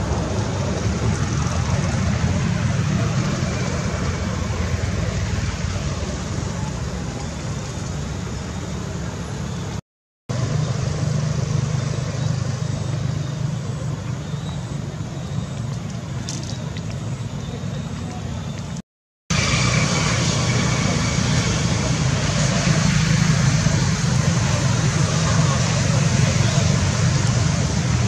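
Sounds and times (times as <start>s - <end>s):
rumbling outdoor noise with low hum: 0.0s - 28.0s.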